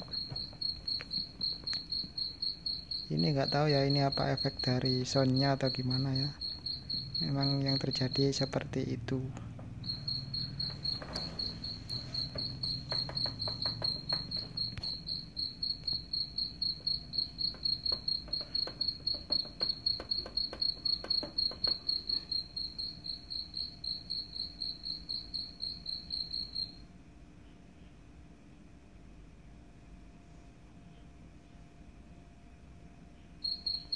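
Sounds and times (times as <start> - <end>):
recorded cricket chirping: 0.0 - 28.2, 29.0 - 33.9.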